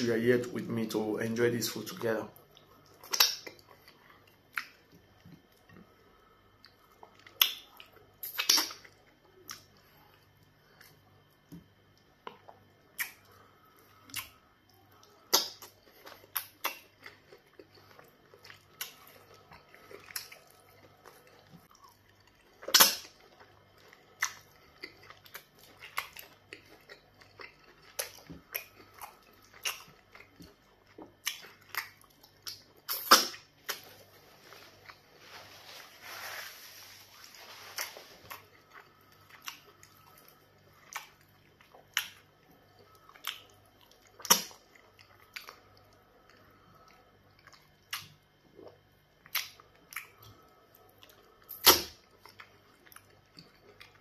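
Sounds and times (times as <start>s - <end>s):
wet chewing and lip-smacking: 2.4s - 6.0s, 6.6s - 34.0s, 37.8s - 54.0s.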